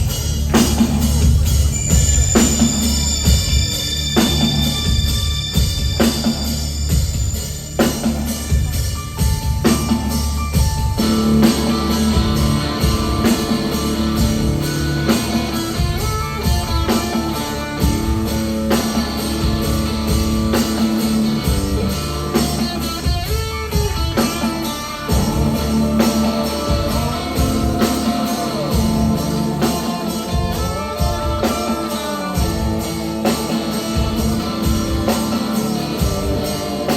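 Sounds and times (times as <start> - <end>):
rock band playing live: 0.0 - 36.9.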